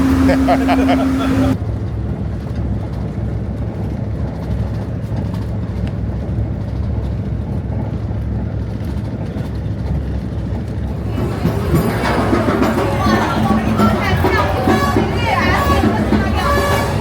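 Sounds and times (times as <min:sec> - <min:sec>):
passenger train rumbling: 0:00.0 - 0:17.0.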